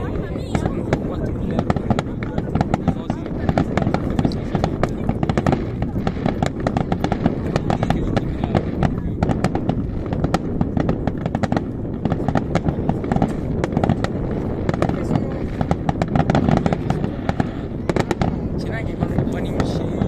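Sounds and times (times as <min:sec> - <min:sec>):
fireworks popping and crackling: 0:00.0 - 0:20.0
low rumble: 0:00.0 - 0:20.0.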